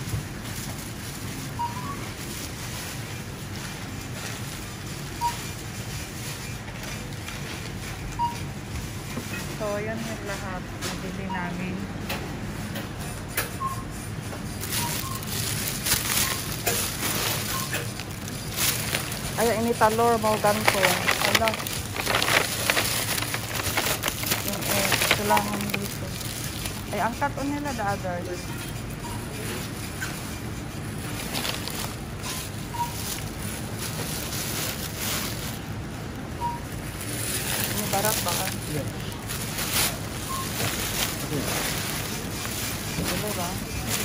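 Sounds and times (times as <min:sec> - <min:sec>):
plastic bags rustling: 0:00.0 - 0:08.0, 0:14.4 - 0:36.0, 0:36.6 - 0:44.0
store background hum: 0:00.0 - 0:44.0.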